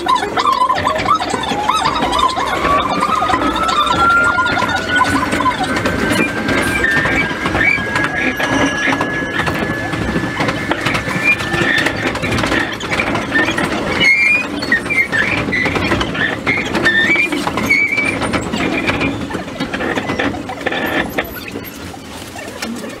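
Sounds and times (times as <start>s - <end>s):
high squeals from running gear: 0.0s - 22.5s
train running on rails: 0.0s - 23.0s.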